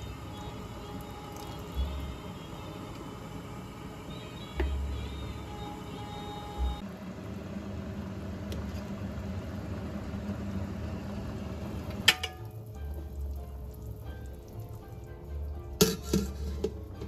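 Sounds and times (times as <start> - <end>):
broth boiling in a pot: 0.0 - 17.0.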